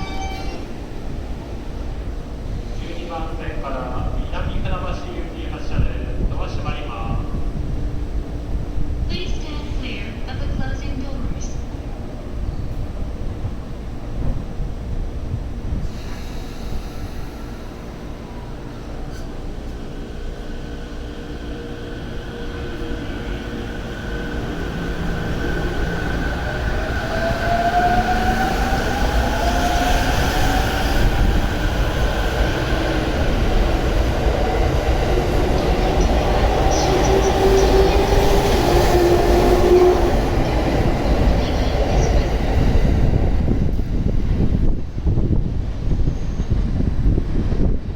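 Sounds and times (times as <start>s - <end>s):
rail rumble: 0.0s - 47.9s.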